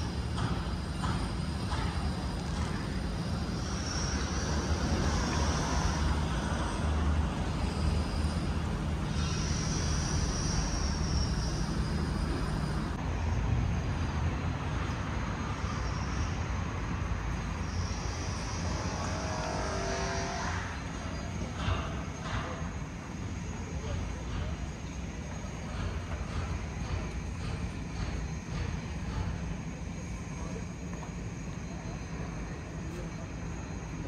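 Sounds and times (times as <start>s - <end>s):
boat engines low rumble: 0.0s - 34.0s
faint high whine: 0.0s - 34.0s.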